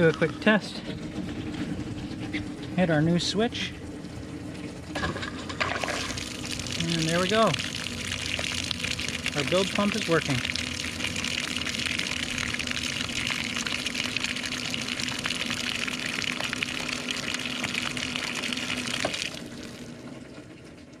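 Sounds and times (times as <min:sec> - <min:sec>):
pump humming: 0:00.0 - 0:21.0.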